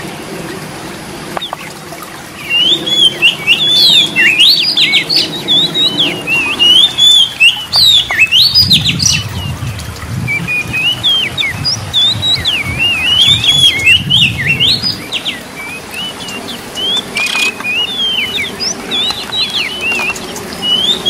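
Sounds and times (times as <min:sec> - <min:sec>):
bird singing whistled song: 0:02.4 - 0:21.0.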